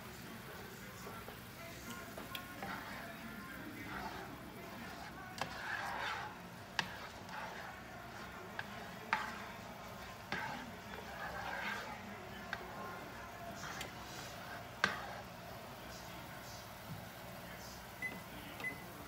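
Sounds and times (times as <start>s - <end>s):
light sizzle: 0.0s - 19.0s
utensil stirring sauce in a pan: 0.0s - 19.0s.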